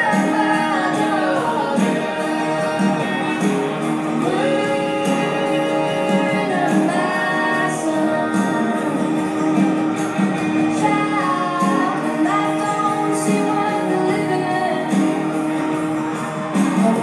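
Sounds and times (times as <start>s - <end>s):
recorded music with singing: 0.0s - 17.0s.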